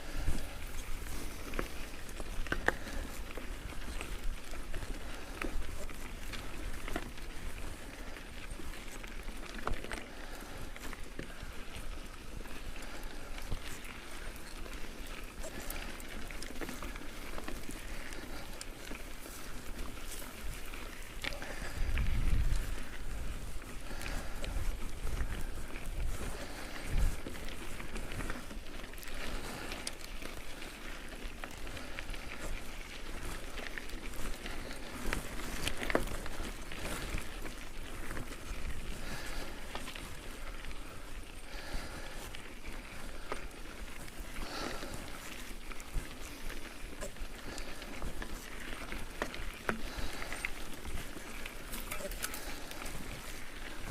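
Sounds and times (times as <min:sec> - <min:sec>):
heavy breathing: 0:00.0 - 0:04.2, 0:09.8 - 0:53.9
bike clicks and rattles: 0:00.0 - 0:53.9
bike tyres crunching on gravel: 0:00.0 - 0:53.9.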